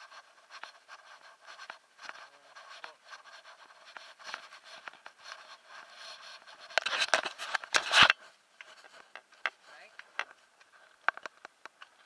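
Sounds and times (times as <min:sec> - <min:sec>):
scraping against microphone: 0:00.0 - 0:12.0.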